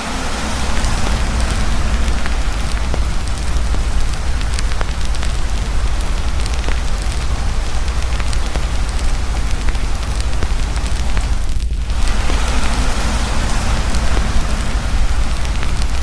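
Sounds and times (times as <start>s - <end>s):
campfire crackling: 0.0s - 16.0s
heavy rain pouring: 0.0s - 16.0s
low rumble: 0.0s - 16.0s.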